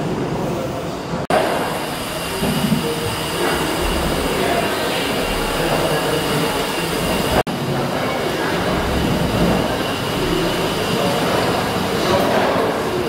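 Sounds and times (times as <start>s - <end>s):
steam engine rumble and clatter: 0.0s - 13.0s.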